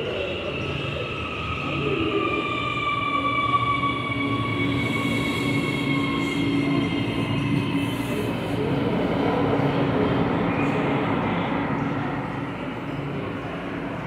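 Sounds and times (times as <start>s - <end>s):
electric train whine: 0.0s - 14.0s.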